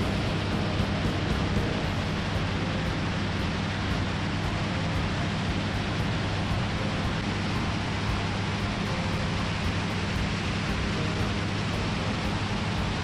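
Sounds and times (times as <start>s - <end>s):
aircraft engine drone: 0.0s - 13.0s
wind rush on microphone: 0.0s - 13.0s.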